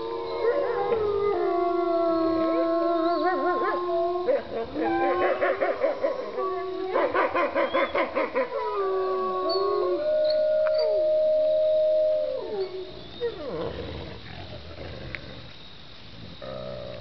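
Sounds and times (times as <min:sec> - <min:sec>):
wolves howling: 0:00.0 - 0:14.2.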